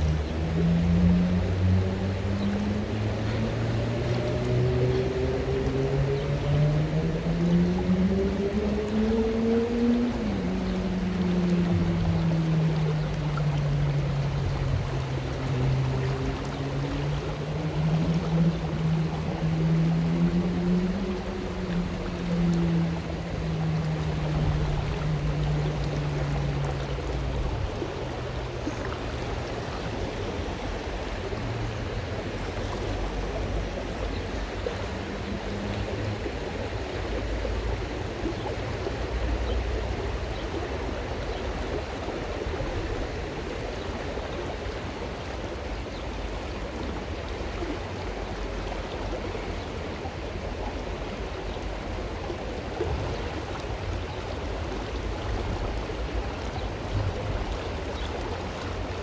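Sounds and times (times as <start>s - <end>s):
low steady hum: 0.0s - 59.0s
river water rushing over stones: 0.0s - 59.0s.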